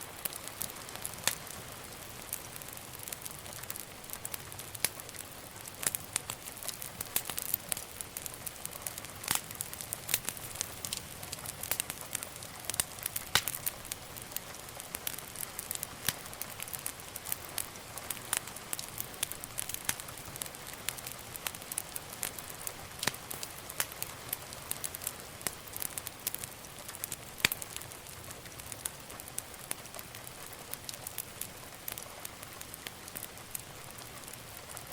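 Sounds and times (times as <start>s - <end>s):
soft fire hiss: 0.0s - 34.9s
wood fire crackling and popping: 0.0s - 34.9s.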